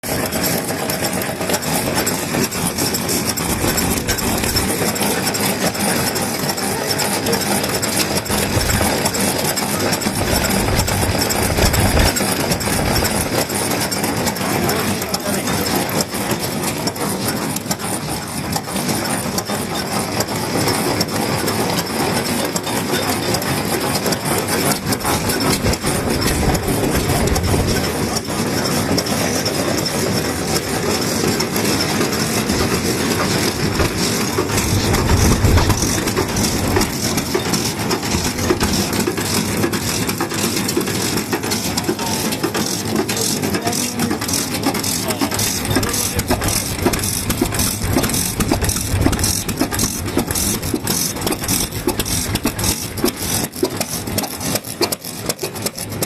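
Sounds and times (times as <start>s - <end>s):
stationary engine clattering: 0.0s - 56.0s.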